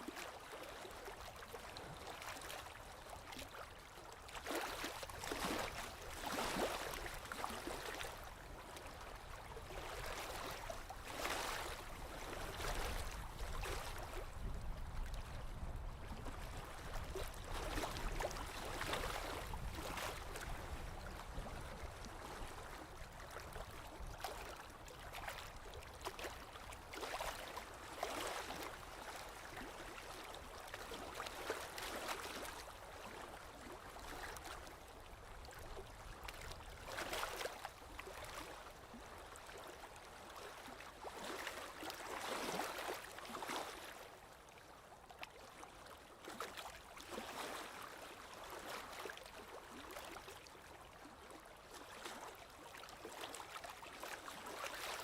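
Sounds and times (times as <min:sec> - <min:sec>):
soft water splashes: 0:00.0 - 0:55.0
waves lapping against shore: 0:00.0 - 0:55.0.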